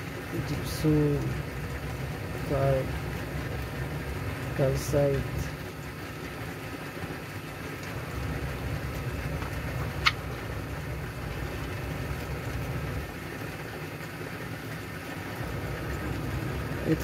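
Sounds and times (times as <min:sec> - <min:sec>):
low machine rumble: 0:00.0 - 0:17.0.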